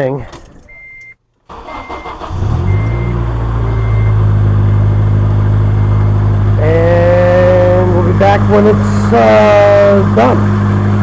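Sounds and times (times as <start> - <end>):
car engine cranking and idling: 0.0 - 11.0.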